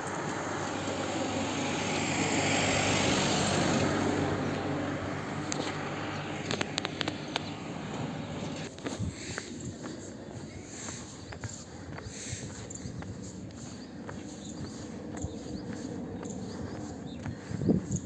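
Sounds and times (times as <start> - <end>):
road vehicle passing by: 0.0 - 8.7, 12.2 - 18.0.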